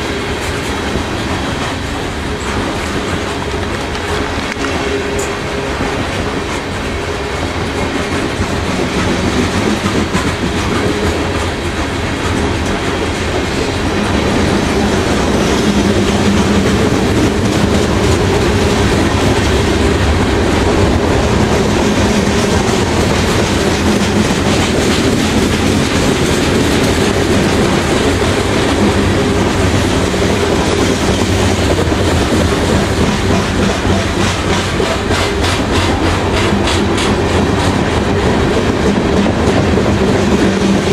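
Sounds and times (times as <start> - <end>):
train wheels rolling on rail: 0.0 - 40.9.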